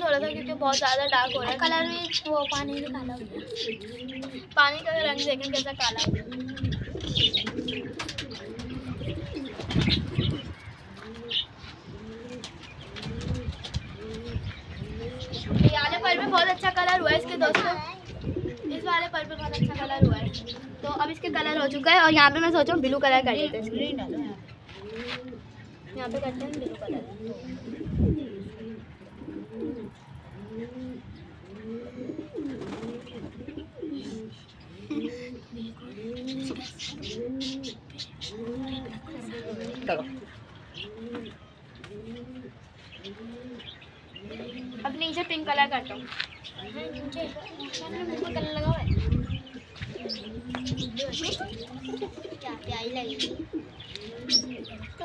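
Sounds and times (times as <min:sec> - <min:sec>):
pigeons cooing: 0:00.0 - 0:55.0
small birds chirping: 0:00.0 - 0:55.0.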